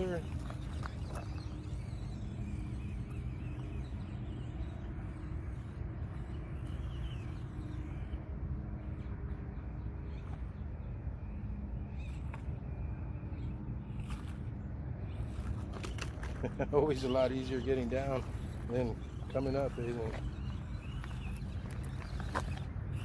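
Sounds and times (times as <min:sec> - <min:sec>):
small electric motor and gears: 0:00.0 - 0:09.2, 0:13.3 - 0:23.0.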